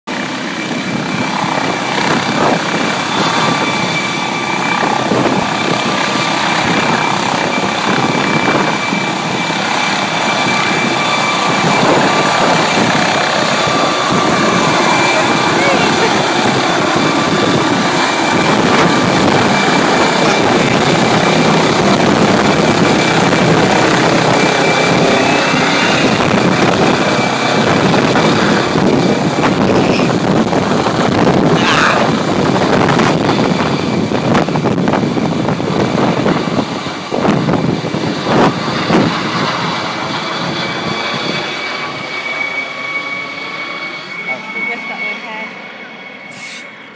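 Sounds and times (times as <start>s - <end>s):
helicopter rotor and engine: 0.1s - 46.9s.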